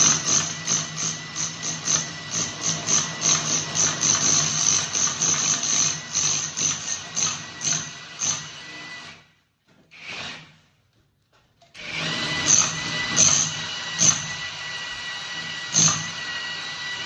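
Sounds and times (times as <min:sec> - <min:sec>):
power drill whining: 0:00.0 - 0:09.2, 0:09.9 - 0:10.6, 0:11.8 - 0:17.0.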